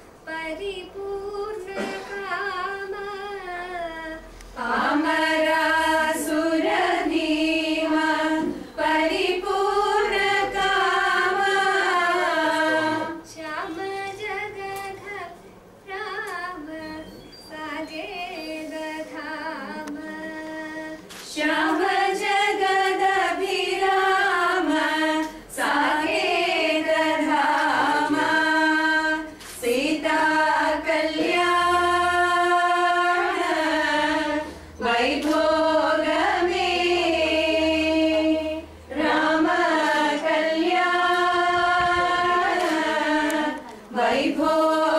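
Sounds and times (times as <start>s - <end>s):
women singing together: 0.2s - 44.9s.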